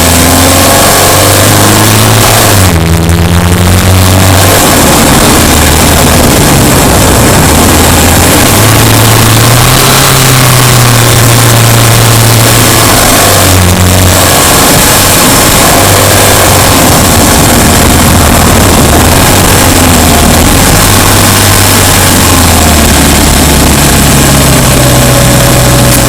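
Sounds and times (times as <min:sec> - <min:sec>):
car engine running loud: 0:00.0 - 0:26.0.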